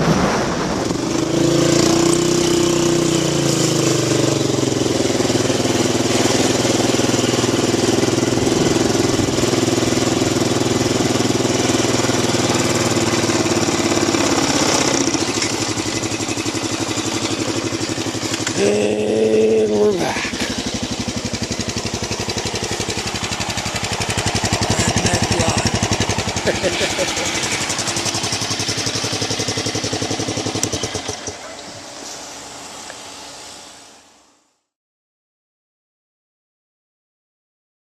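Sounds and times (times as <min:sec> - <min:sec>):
atv engine running: 0:00.1 - 0:34.4.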